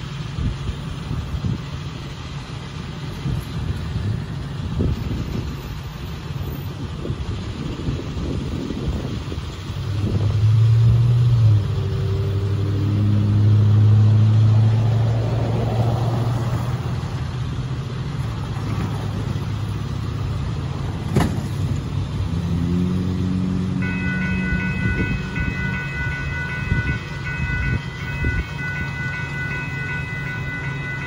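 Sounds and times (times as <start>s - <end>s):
vehicle engines passing: 0.0s - 31.0s.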